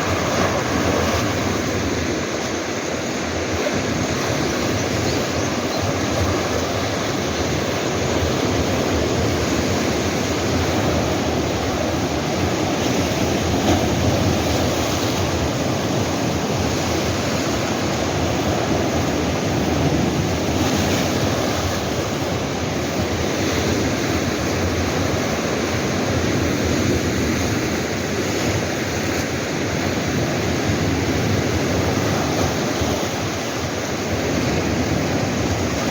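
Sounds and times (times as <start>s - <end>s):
waves washing against rocks: 0.0s - 35.9s.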